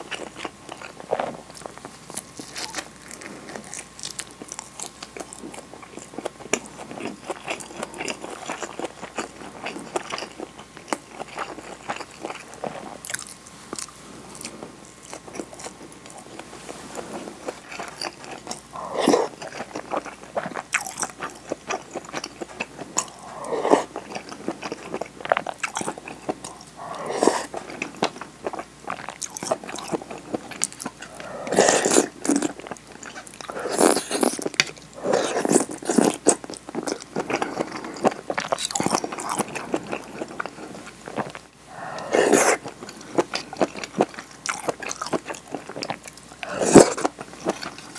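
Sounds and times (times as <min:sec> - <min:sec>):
biting and chewing: 0:00.0 - 0:47.9.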